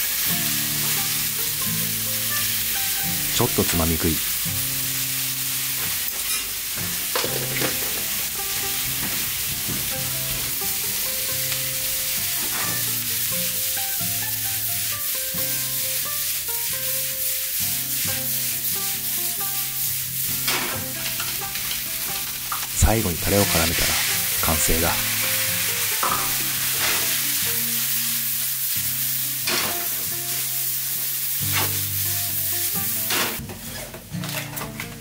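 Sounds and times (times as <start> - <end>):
food sizzling in a frying pan: 0.0 - 34.4
soft background music: 0.1 - 35.0.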